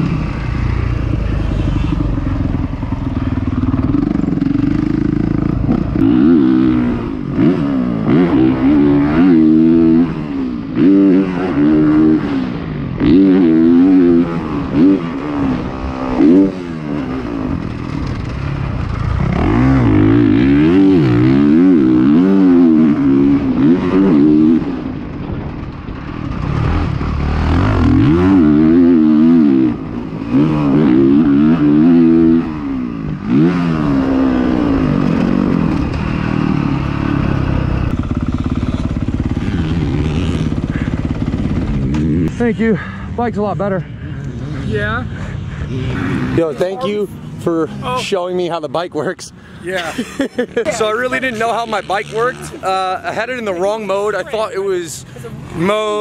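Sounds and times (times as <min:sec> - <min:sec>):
dirt bike engine revving: 0:00.0 - 0:48.2, 0:49.9 - 0:56.0.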